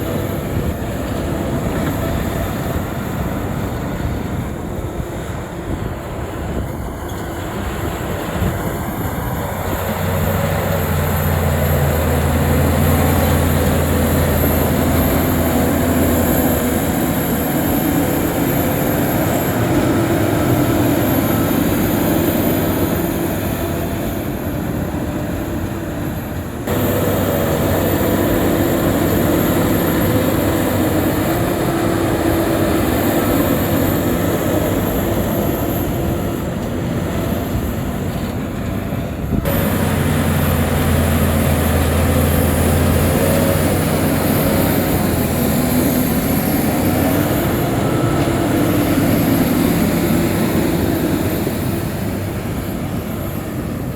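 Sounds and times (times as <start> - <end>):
diesel machinery engine drone: 0.0 - 53.9.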